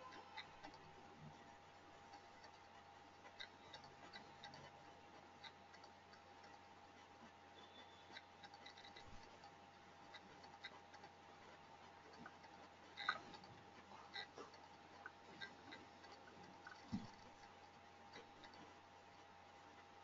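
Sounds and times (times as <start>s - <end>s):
faint clicks: 0.0s - 19.9s
faint electrical hum: 0.0s - 20.0s.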